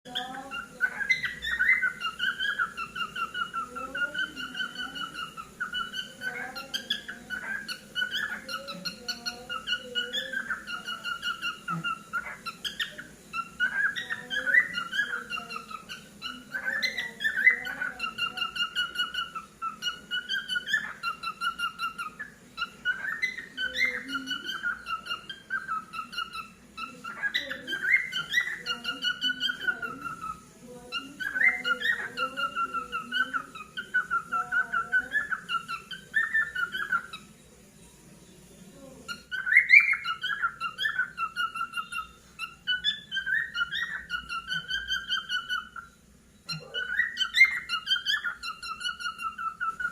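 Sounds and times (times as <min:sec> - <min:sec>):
cockatiel whistling and chirping: 0:00.1 - 0:37.3, 0:39.1 - 0:49.9.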